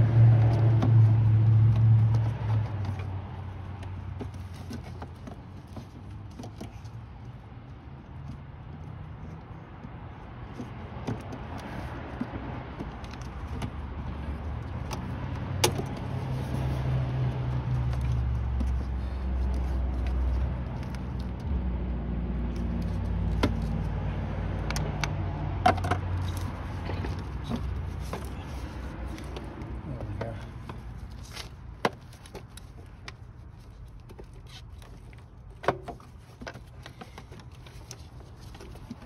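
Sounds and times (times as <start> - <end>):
engine rumble: 0.0 - 39.0.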